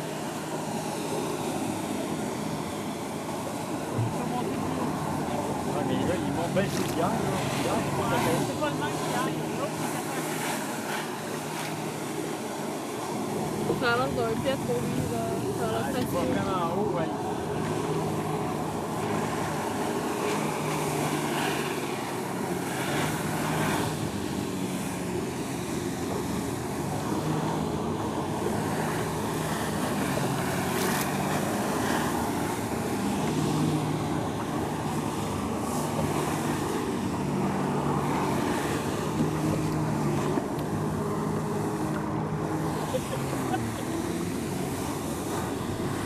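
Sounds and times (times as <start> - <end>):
water jets hissing: 0.0 - 46.0
watercraft engine running: 0.0 - 46.0.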